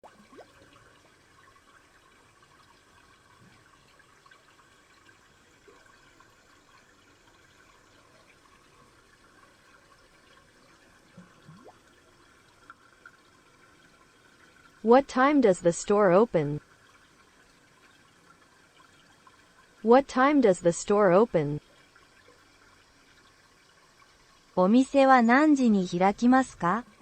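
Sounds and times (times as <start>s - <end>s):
shallow river trickling: 0.0s - 14.9s, 16.6s - 19.9s, 21.5s - 25.2s
water gurgles: 0.0s - 27.0s.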